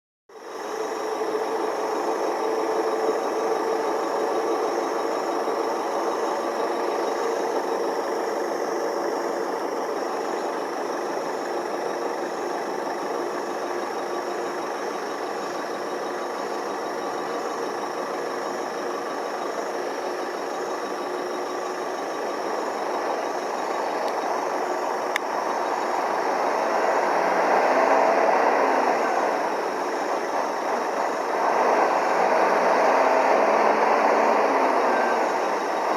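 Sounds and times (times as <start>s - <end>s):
road noise: 0.3s - 35.9s
truck engines running: 0.3s - 35.9s.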